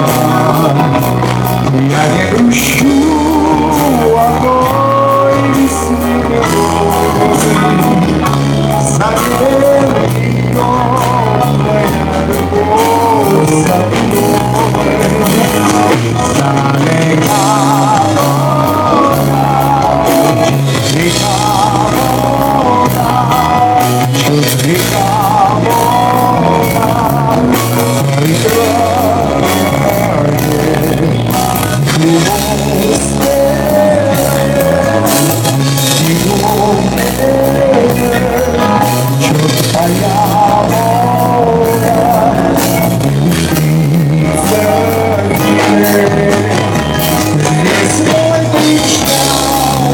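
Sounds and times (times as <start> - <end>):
live pop-rock band music: 0.0 - 49.9.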